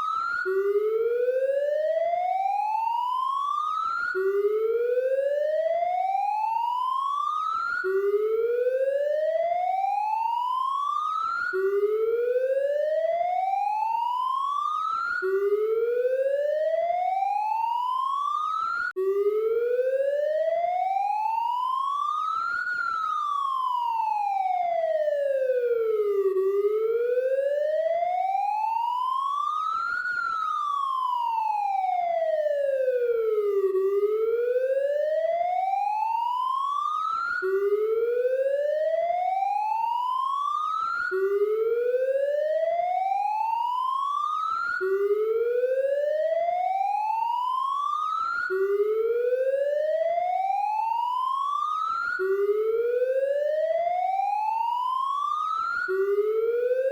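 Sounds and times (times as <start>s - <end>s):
police siren: 0.0s - 56.9s.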